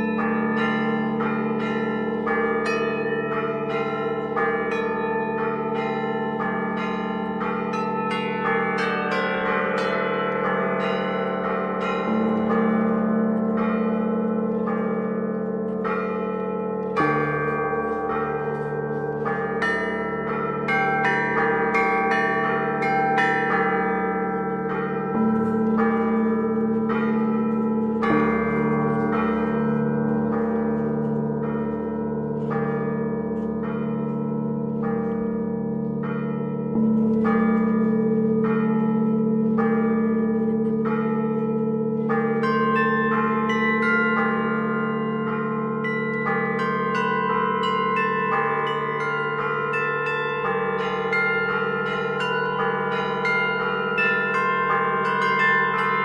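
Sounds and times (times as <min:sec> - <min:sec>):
large bells humming: 0:00.0 - 0:56.0
small church bells ringing: 0:00.0 - 0:56.0.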